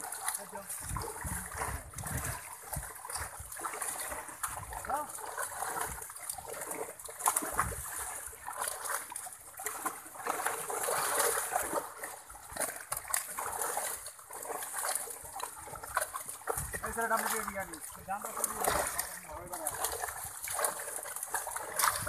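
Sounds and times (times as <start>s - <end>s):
fish slapping on water: 0.0s - 22.0s
water splashing: 0.0s - 22.0s.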